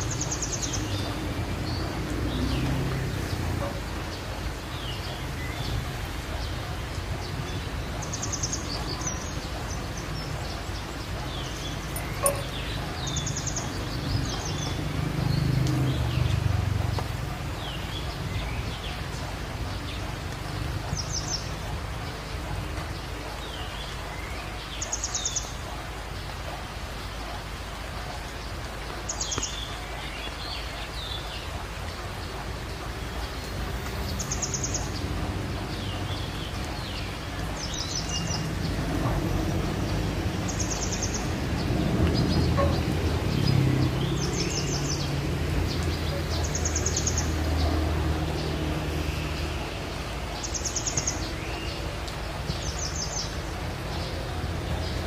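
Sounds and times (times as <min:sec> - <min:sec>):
steady outdoor noise: 0:00.0 - 0:55.0.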